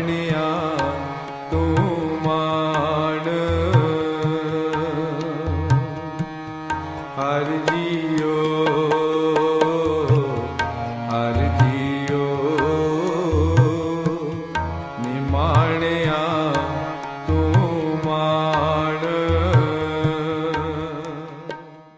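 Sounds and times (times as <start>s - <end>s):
tabla strokes: 0.7s - 21.8s.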